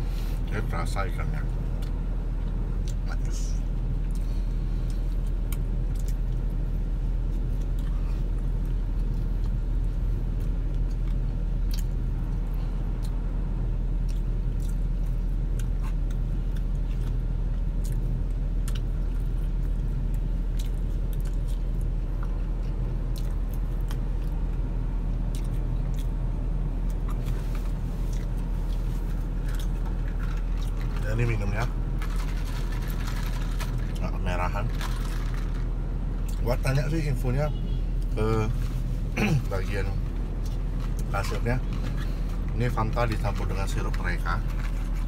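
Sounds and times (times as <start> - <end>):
chewing fried food: 3.9 - 35.6, 40.1 - 45.0.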